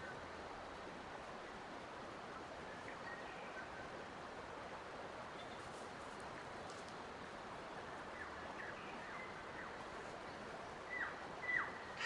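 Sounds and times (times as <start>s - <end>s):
steady soft hiss: 0.0s - 12.0s.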